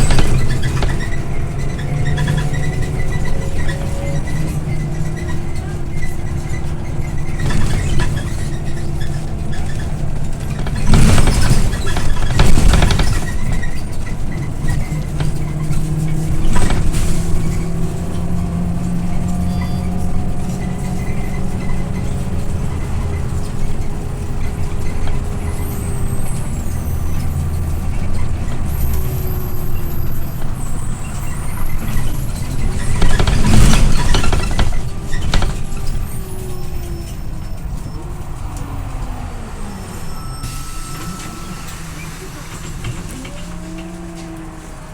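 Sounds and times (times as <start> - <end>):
bus engine running: 0.0 - 44.9.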